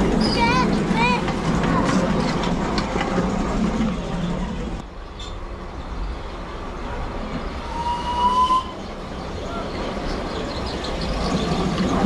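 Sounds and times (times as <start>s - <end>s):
miniature train rumbling: 0.0s - 12.0s.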